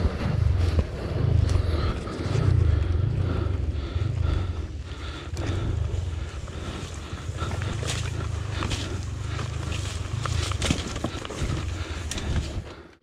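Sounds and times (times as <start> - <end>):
motorcycle engine running unevenly: 0.0 - 12.7.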